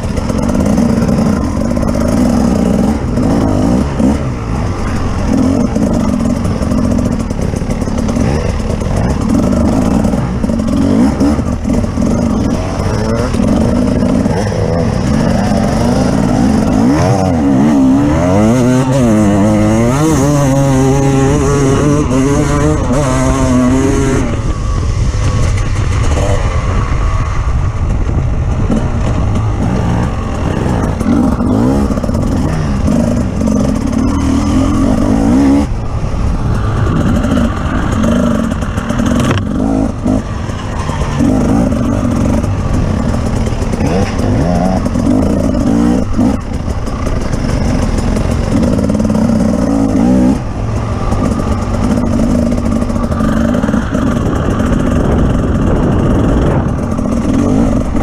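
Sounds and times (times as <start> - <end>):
clatter: 0.0 - 58.0
off-road vehicle engine revving: 0.0 - 58.0.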